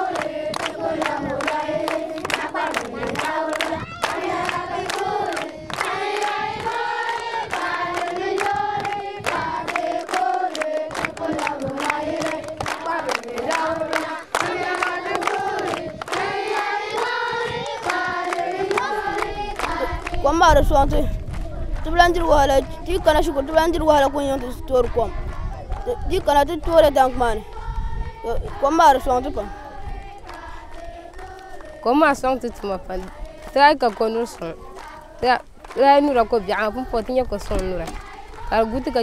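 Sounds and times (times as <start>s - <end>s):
children singing together: 0.0s - 21.9s, 22.6s - 33.6s, 34.4s - 35.3s, 36.2s - 39.0s
rhythmic clapping: 0.0s - 39.0s.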